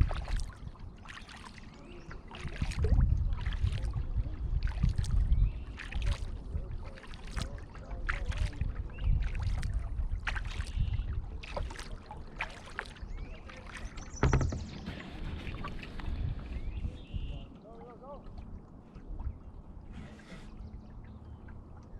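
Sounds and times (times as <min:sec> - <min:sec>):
wind rumble on microphone: 0:00.0 - 0:17.6
paddle splashing in water: 0:00.0 - 0:21.9.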